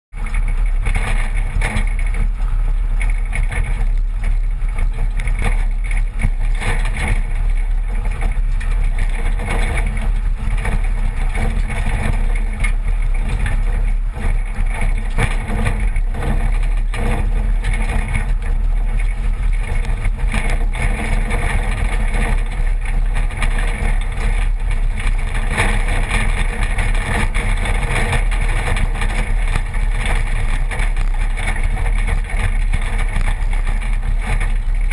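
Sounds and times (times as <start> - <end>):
pickup engine driving: 0.1 - 34.9
suspension knocks and jolts: 0.2 - 34.9
tyres on gravel: 0.2 - 34.9.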